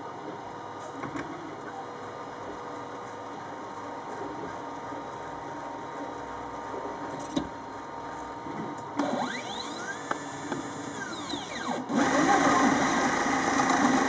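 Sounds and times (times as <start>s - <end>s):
lathe humming and whining: 1.4s - 14.0s.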